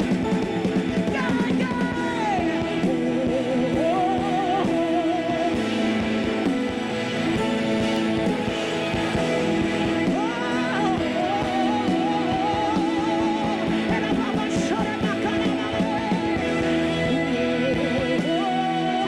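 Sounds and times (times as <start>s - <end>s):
guitar: 0.0s - 19.0s
held chords: 0.0s - 19.0s.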